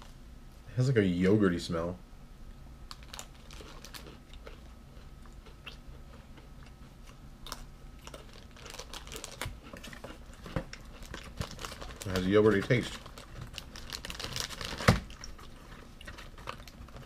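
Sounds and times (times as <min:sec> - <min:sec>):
crisp crunches and clicks: 0:02.8 - 0:17.0
person chewing crunchy biscuit: 0:02.9 - 0:17.0.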